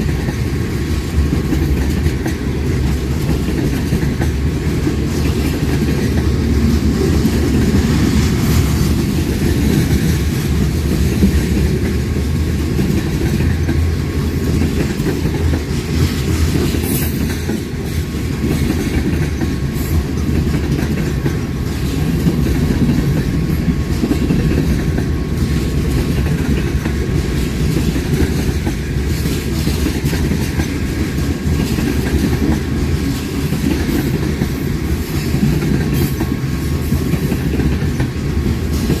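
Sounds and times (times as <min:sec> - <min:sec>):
train rumbling past: 0:00.0 - 0:39.0
wheels clacking over rail joints: 0:00.0 - 0:39.0.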